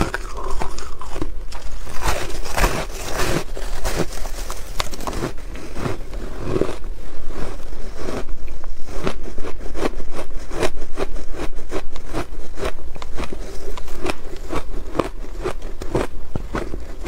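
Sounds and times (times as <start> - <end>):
ice crunching while chewed: 0.0 - 17.0.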